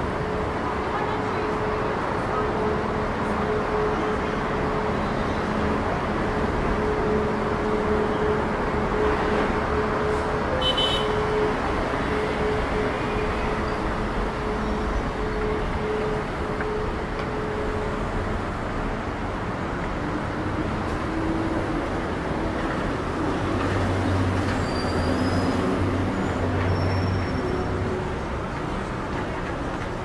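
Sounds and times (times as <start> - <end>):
busy road traffic: 0.0 - 30.0
heavy engine rumble: 0.0 - 30.0.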